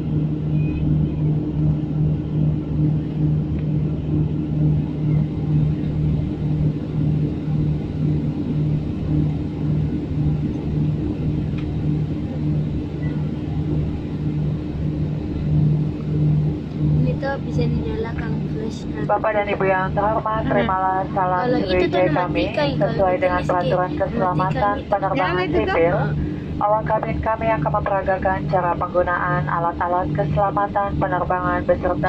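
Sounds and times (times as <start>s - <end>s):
air noise: 0.0s - 32.0s
airliner cabin drone: 0.0s - 32.0s.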